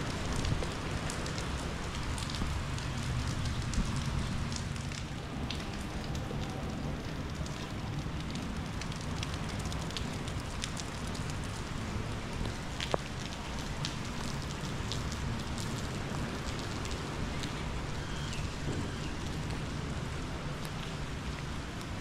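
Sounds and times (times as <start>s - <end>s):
rain pattering on hard surfaces: 0.0s - 22.0s.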